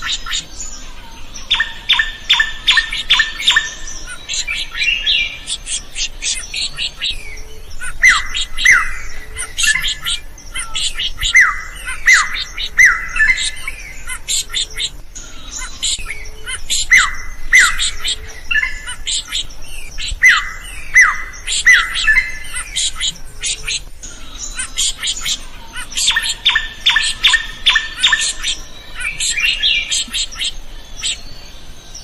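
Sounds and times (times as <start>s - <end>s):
drongo singing chips and whistles: 1.4s - 32.0s.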